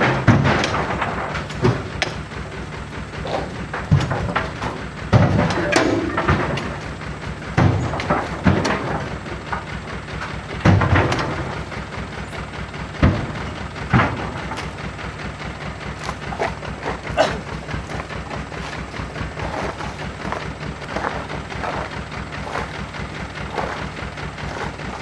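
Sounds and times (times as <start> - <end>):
fruit bunches thudding in truck bed: 0.0 - 2.2, 3.2 - 9.6, 10.6 - 11.9, 13.0 - 15.0, 15.8 - 25.0.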